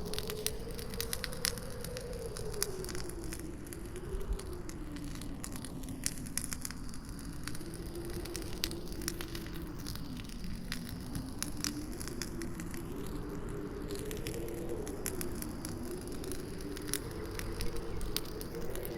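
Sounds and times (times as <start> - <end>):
campfire crackling and popping: 0.0 - 18.9
howling wind: 0.0 - 18.9.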